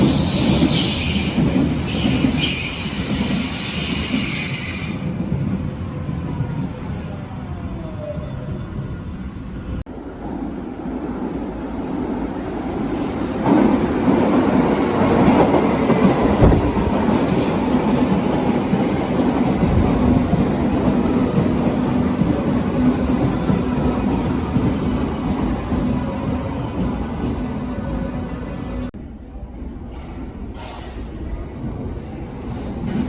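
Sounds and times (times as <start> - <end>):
steady train hum: 0.0 - 33.0
train running on rails: 0.0 - 33.0.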